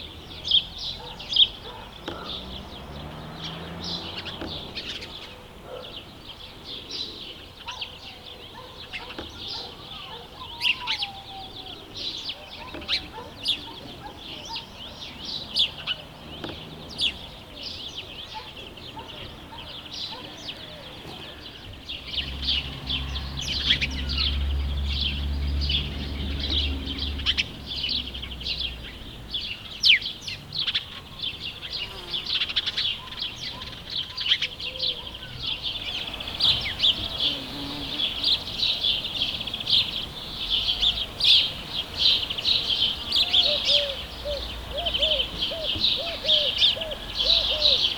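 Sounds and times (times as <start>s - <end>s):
sparrows chirping: 0.0s - 47.9s.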